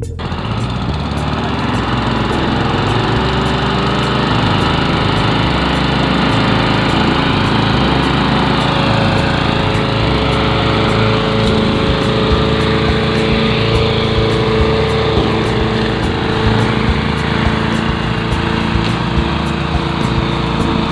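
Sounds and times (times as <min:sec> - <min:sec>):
lawn mower engine running: 0:00.0 - 0:20.9.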